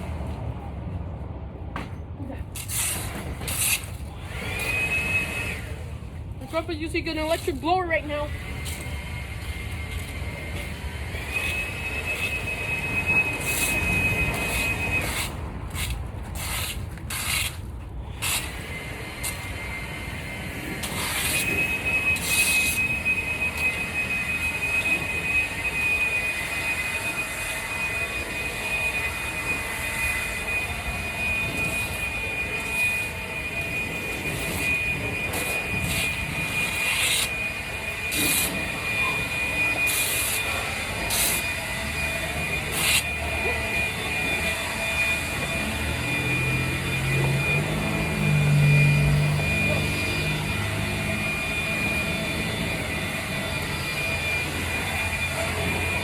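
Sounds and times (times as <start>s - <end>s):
leaf blower high whine: 4.1s - 5.9s, 6.5s - 15.8s, 18.1s - 56.0s.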